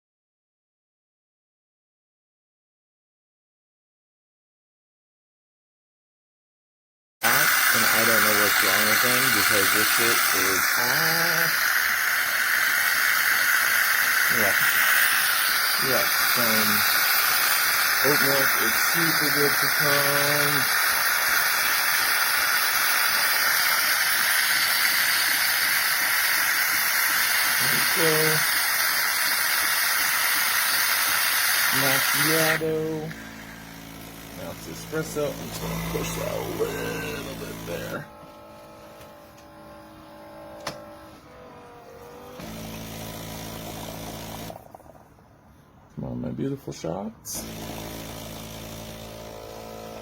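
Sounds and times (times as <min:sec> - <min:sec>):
espresso machine steam hiss: 0:07.2 - 0:45.0, 0:47.3 - 0:50.0.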